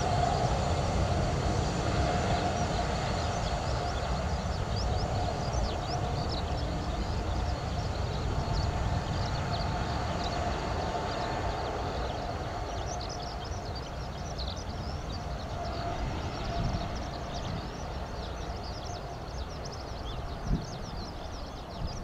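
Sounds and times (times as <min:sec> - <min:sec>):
distant jet airliner rumble: 0:00.0 - 0:22.0
small birds chirping: 0:00.2 - 0:22.0.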